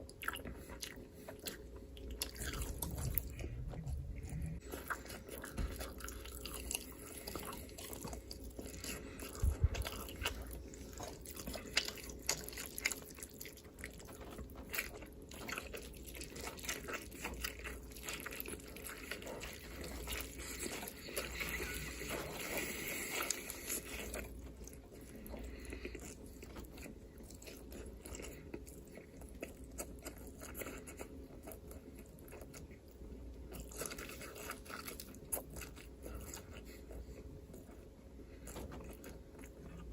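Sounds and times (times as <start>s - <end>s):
crunchy chewing of food: 0.0s - 39.9s.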